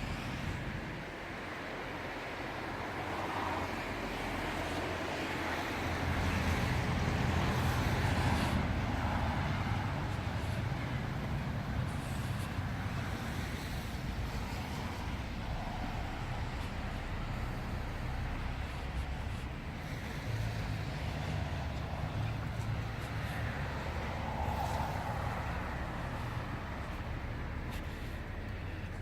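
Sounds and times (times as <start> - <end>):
street traffic: 0.0 - 29.0
vehicle passing: 2.9 - 29.0.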